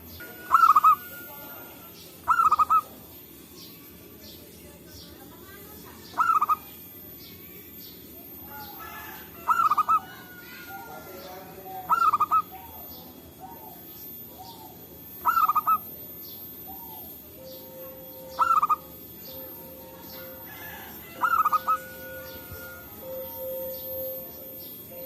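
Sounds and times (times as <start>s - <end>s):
dove cooing: 0.0s - 3.3s, 6.0s - 7.0s, 8.1s - 25.0s.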